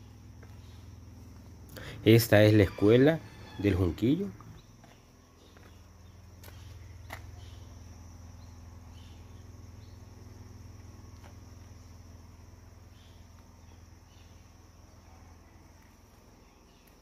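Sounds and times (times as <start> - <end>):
high-pitched insect chorus: 0.0 - 17.0
low steady hum: 0.0 - 17.0.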